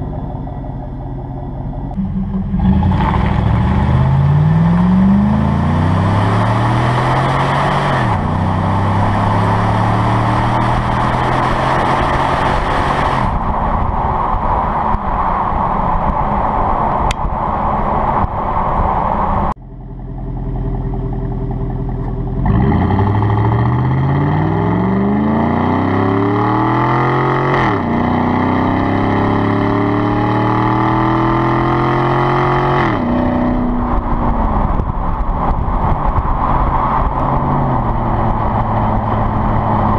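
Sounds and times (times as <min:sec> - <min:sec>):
truck engine accelerating: 0:00.0 - 0:39.9.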